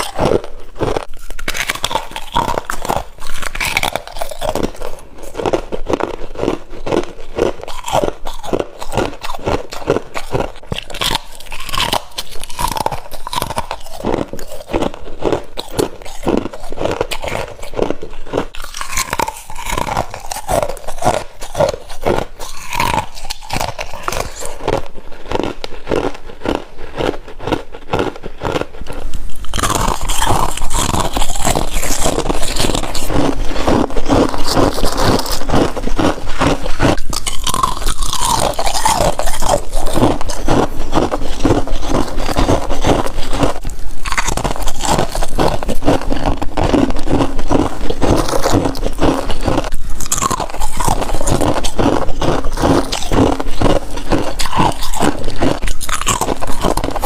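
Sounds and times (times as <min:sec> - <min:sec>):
person crunching frost: 0:00.0 - 0:57.0.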